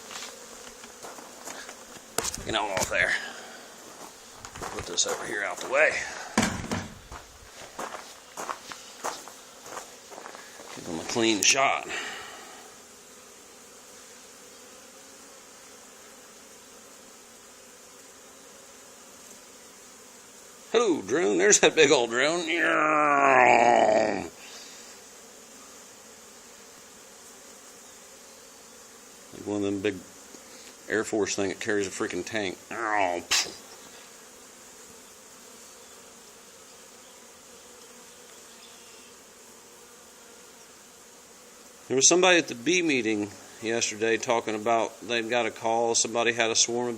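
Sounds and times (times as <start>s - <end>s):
bees buzzing: 0.0s - 46.9s.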